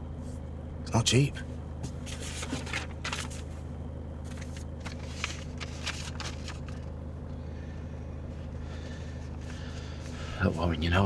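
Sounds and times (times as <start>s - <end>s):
low hum inside car cabin: 0.0s - 11.0s.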